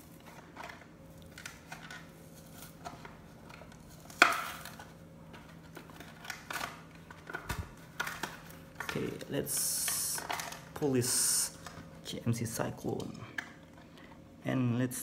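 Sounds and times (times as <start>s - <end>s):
plastic blister pack crinkling: 0.0s - 14.2s.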